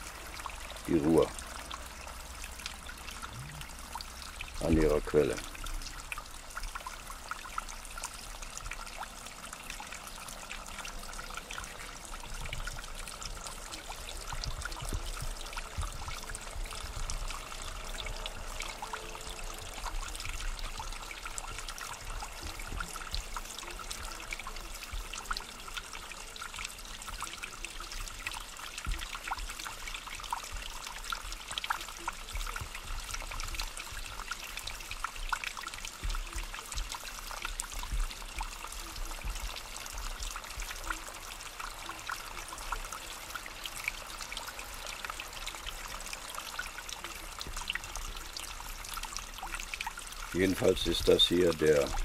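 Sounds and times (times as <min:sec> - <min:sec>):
spring water trickling over stones: 0:00.0 - 0:52.0.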